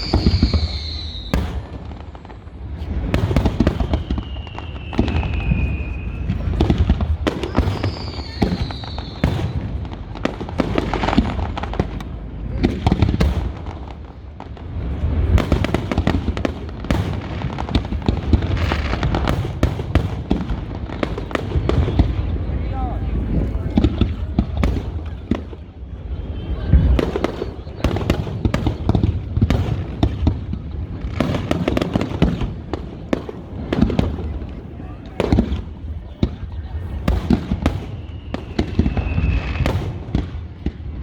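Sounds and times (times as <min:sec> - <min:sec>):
fireworks bangs and crackles: 0:00.0 - 0:41.0
whistling fireworks falling in pitch: 0:00.0 - 0:41.0.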